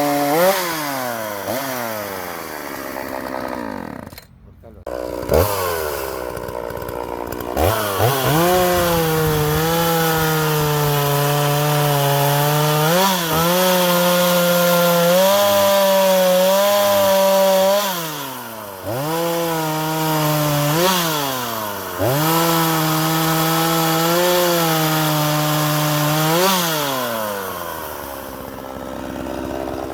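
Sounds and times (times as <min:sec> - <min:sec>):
chainsaw cutting wood: 0:00.0 - 0:29.9.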